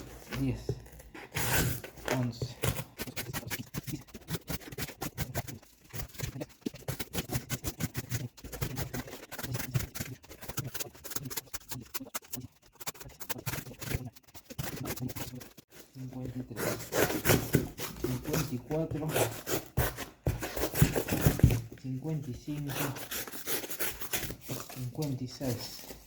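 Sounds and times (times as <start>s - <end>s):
knife cutting cardboard: 0.0s - 26.0s.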